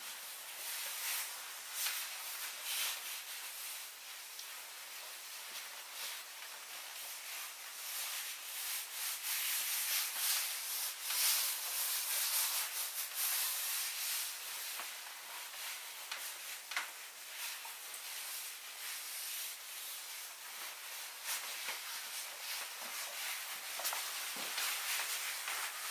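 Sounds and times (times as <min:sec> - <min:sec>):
skirt rustling: 0:00.1 - 0:25.9.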